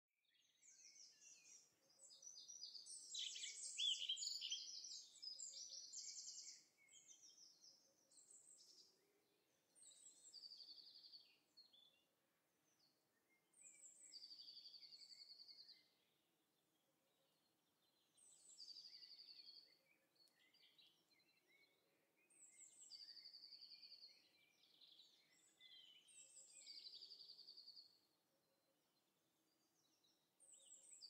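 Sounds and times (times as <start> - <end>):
songbirds singing: 0.3 - 31.0.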